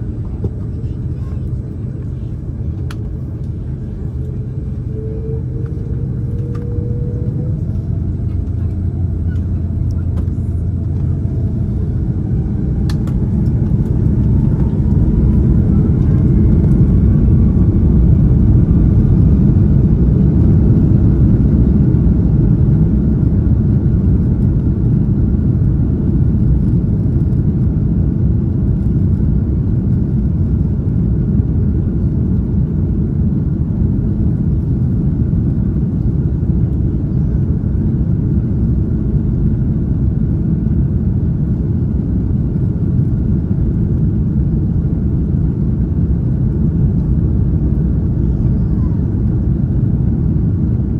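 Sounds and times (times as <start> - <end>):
jet engines rumbling in cabin: 0.0 - 50.9.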